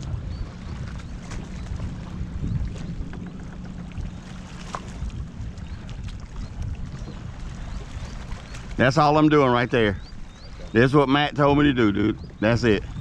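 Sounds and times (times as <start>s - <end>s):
water lapping around kayak: 0.0s - 13.0s
wind rumbling on microphone: 0.0s - 13.0s.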